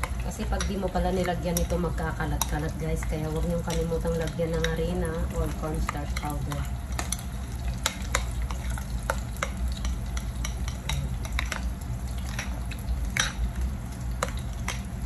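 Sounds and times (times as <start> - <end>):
oil sizzling in frying pan: 0.0 - 15.0.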